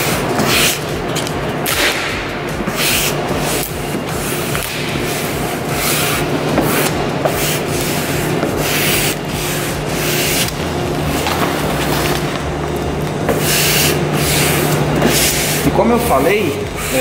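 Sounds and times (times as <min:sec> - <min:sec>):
squeegee scraping vinyl film: 0:00.0 - 0:17.0.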